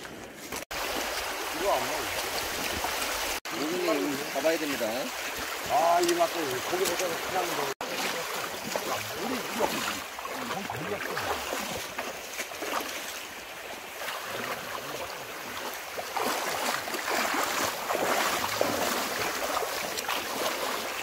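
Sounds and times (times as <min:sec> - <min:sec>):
people wading through water: 0:00.0 - 0:21.0.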